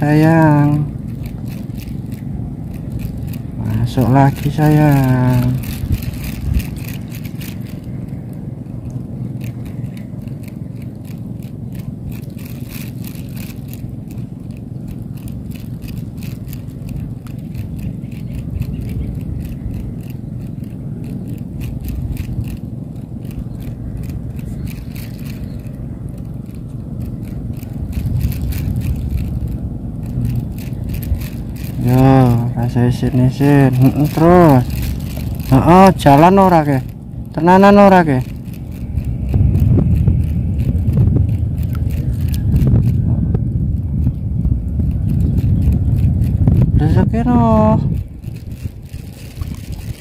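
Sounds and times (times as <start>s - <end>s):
fast even ticking: 0.0s - 50.0s
wind buffeting microphone: 0.0s - 50.0s.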